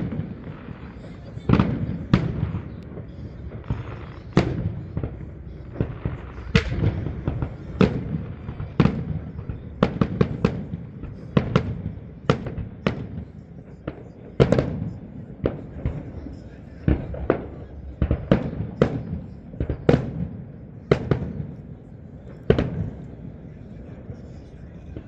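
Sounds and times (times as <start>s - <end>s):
fireworks cracks: 0.0s - 20.3s
fireworks bangs: 0.0s - 25.0s.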